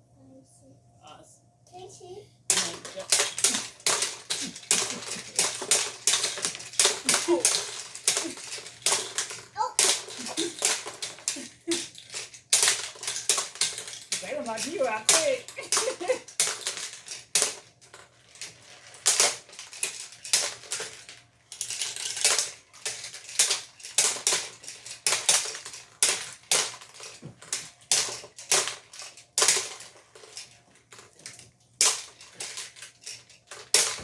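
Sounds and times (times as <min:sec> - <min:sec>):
plastic toys clattering: 0:02.5 - 0:34.0.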